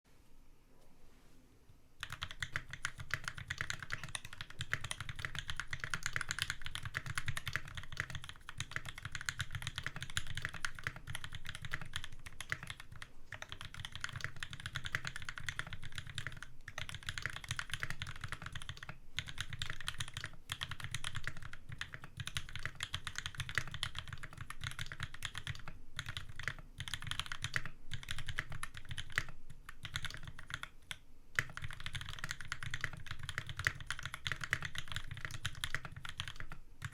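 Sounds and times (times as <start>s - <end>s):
fast typing on mechanical keyboard: 2.0s - 36.9s.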